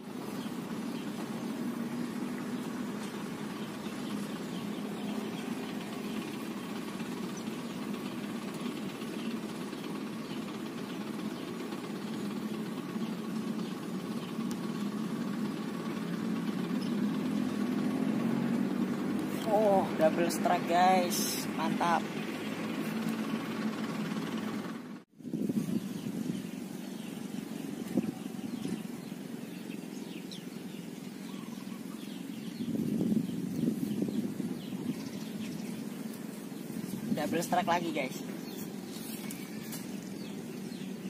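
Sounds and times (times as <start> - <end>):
truck engine humming: 0.0 - 41.0.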